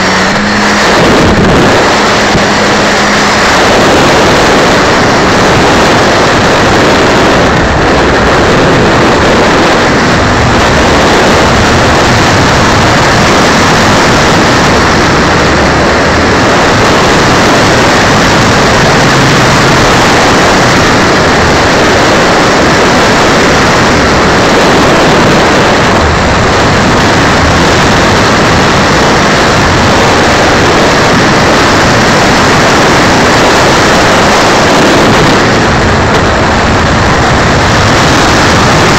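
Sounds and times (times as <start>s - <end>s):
wind and propeller rushing: 0.0s - 38.9s.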